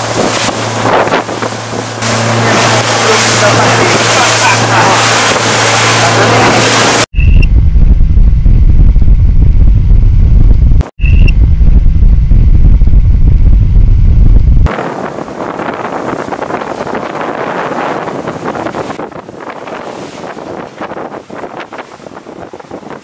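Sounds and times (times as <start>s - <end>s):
motorboat engine rumble: 0.0s - 23.0s
rushing wind and water: 0.0s - 23.0s
wind on microphone: 0.0s - 23.0s.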